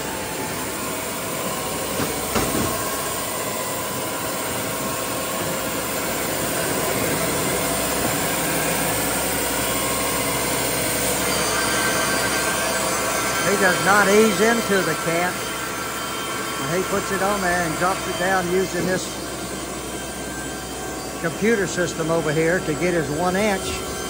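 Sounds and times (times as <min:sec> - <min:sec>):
band sawmill cutting log: 0:00.0 - 0:24.0.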